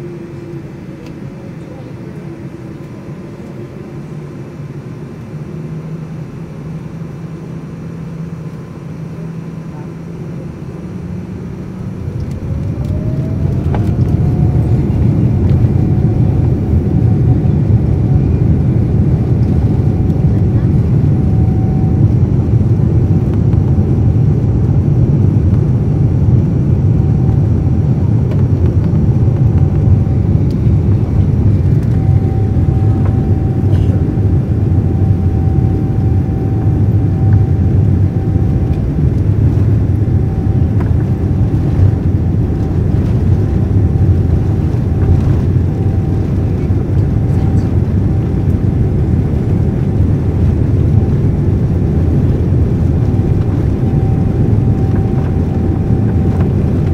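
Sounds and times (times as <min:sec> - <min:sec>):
faint steady whine: 0:00.0 - 0:56.9
jet engines low rumble: 0:00.0 - 0:56.9.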